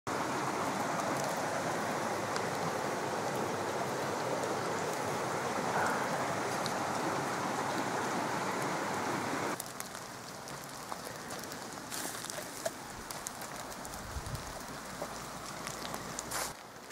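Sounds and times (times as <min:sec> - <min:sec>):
creek water rushing: 0:00.1 - 0:16.9.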